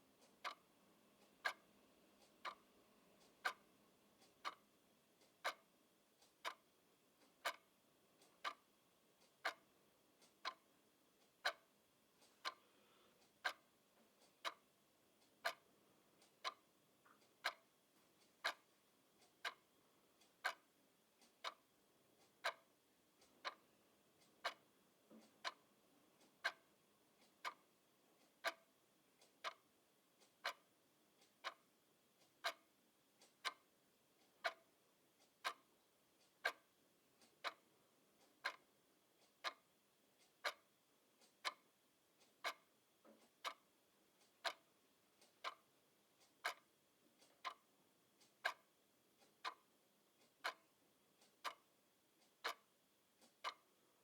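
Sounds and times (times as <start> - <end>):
mechanical clock ticking: 0.0 - 12.6, 13.2 - 54.0.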